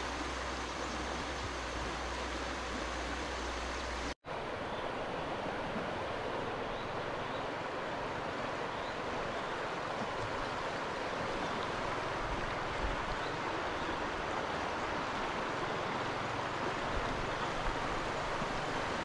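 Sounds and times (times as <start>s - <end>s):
large stream rushing: 0.0s - 19.0s.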